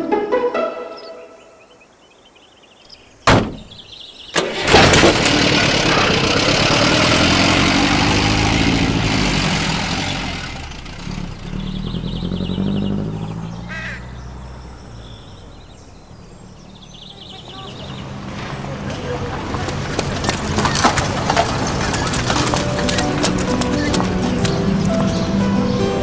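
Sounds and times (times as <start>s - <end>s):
car engine starting and driving away: 3.4s - 26.0s.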